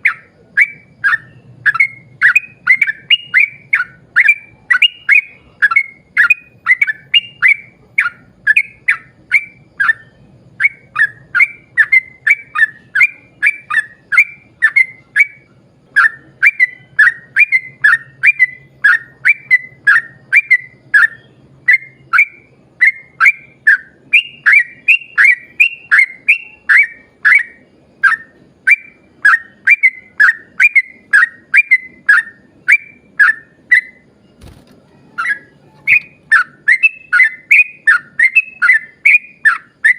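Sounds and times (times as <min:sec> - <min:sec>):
bulbul singing chirping notes: 0:00.0 - 0:39.9.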